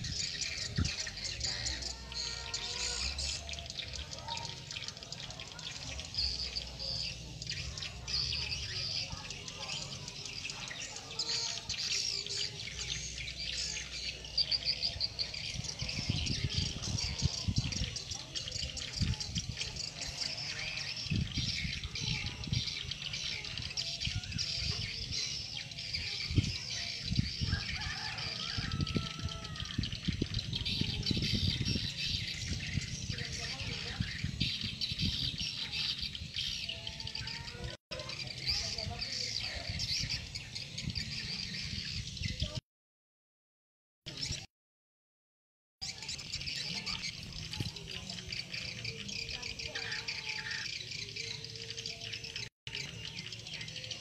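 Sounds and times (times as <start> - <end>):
swiftlets chirping and twittering: 0.0 - 42.6, 45.8 - 54.0.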